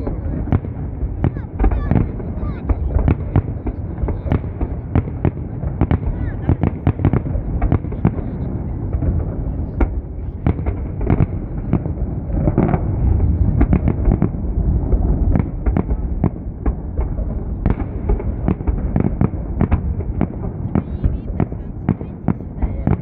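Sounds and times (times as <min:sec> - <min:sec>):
fireworks bangs: 0:00.0 - 0:23.0
low rumble: 0:00.0 - 0:23.0.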